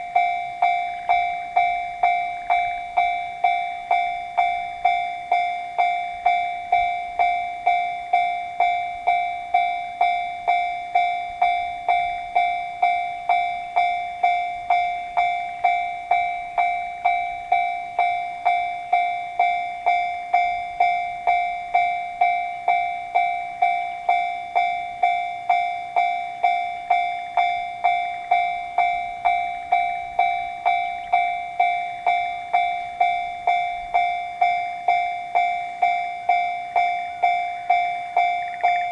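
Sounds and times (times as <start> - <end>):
level crossing alarm bell ringing: 0.0 - 38.9.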